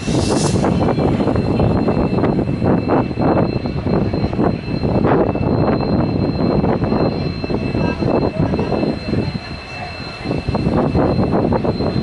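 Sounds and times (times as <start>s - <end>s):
train wheel and track noise: 0.0s - 12.0s.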